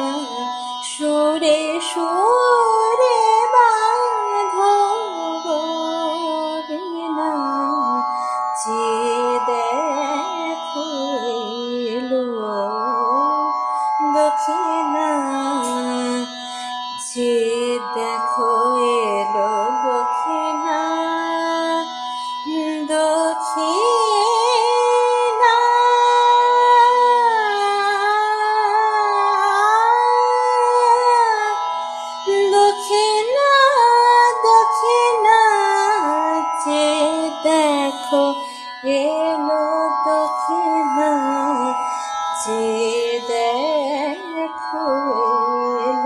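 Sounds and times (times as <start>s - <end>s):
devotional melody sliding in pitch: 0.0s - 46.0s.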